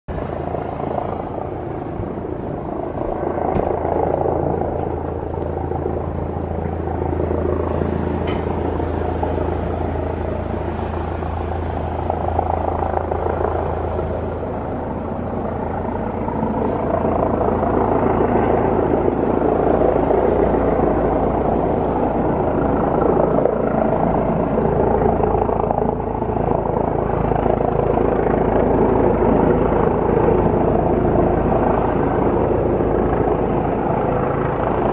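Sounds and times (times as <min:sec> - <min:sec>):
helicopter rotor drone: 0:00.1 - 0:34.9.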